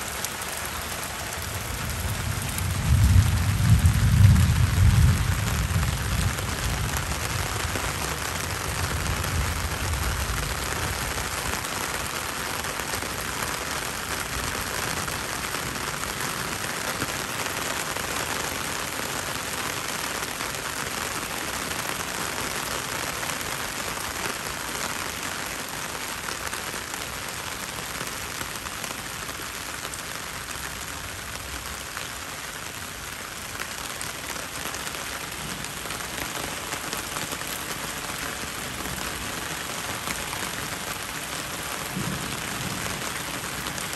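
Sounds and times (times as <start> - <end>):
heavy rain on plants: 0.0 - 43.9.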